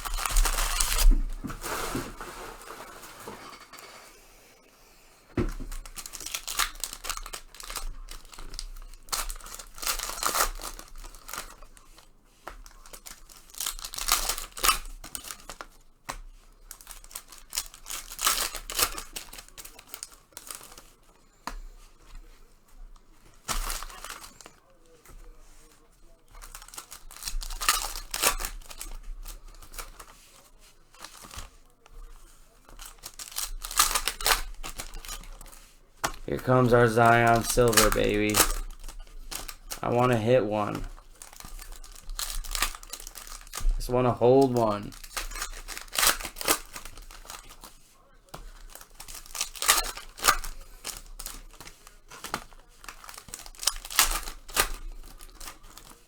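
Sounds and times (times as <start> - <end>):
card packs crinkling and tearing: 0.0 - 3.5, 5.3 - 56.0.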